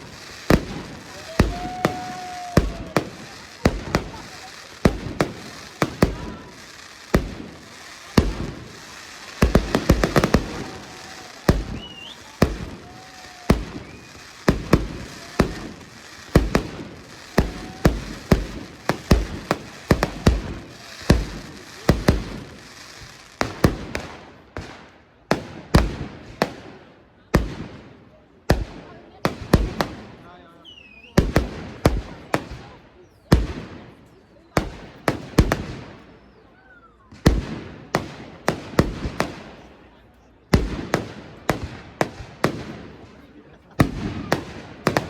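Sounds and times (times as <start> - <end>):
firework bangs: 0.0 - 26.8, 31.2 - 36.1, 37.1 - 45.0
fireworks crackling: 0.0 - 26.8, 29.3 - 36.4, 37.0 - 45.0.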